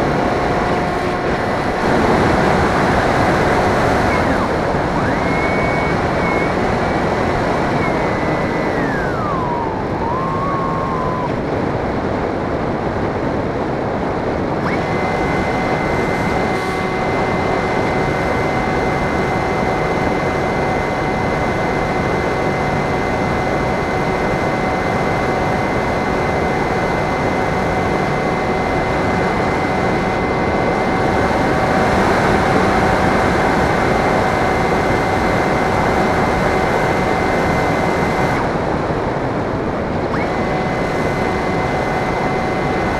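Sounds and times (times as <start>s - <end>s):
electric motor whine: 0.0s - 42.9s
wind rushing on microphone: 0.0s - 42.9s.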